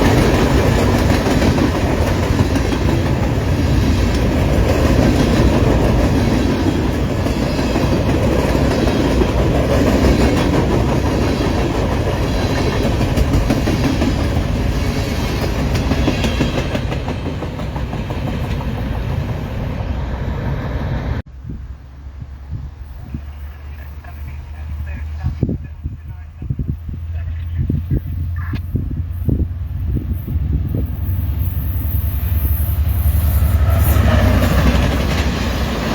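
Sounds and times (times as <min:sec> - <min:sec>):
railroad cars rolling past: 0:00.0 - 0:35.9.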